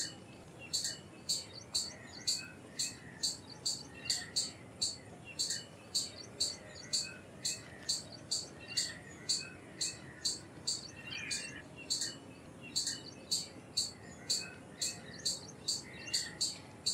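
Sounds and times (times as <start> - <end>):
squirrel chirping: 0.0 - 16.9.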